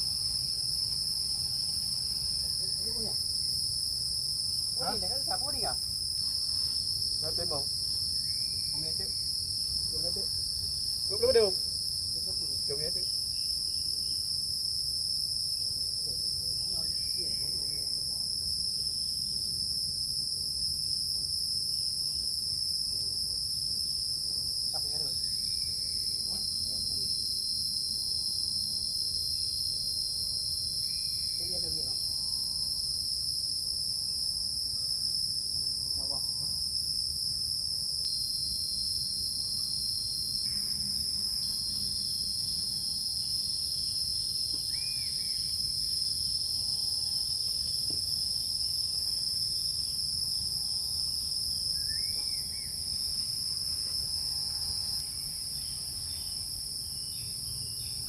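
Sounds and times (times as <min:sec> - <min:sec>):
forest insects chirring: 0:00.0 - 0:58.0.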